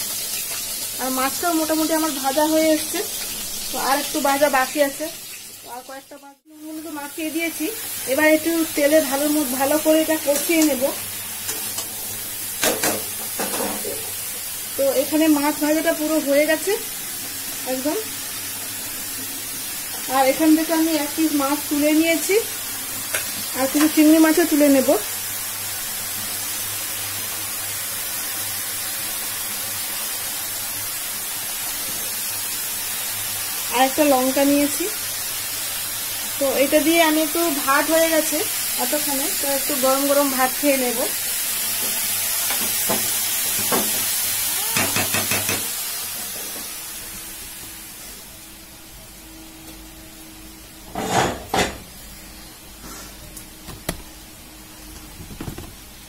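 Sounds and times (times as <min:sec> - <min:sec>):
vegetables hissing in oil: 0:00.0 - 0:48.6, 0:51.9 - 0:53.6.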